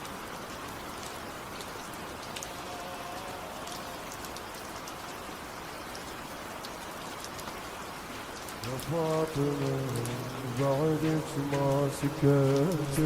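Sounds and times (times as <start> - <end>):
rain drop ticks: 0.0 - 13.0
steady rain hiss: 0.0 - 13.0.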